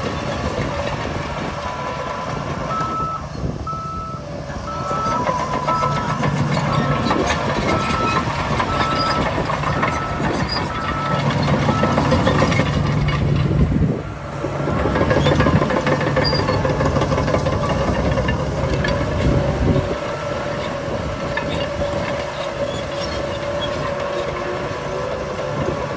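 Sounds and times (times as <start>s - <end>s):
heavy diesel engines under load: 0.0s - 25.9s
truck reversing beeper: 0.2s - 25.0s.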